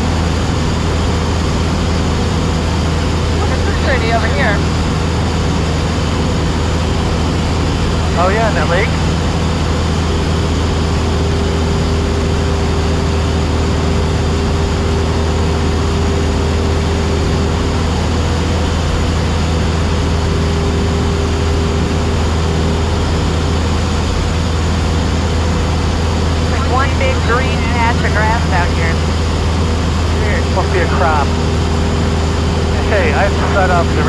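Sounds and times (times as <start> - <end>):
airplane engine droning: 0.0 - 34.0.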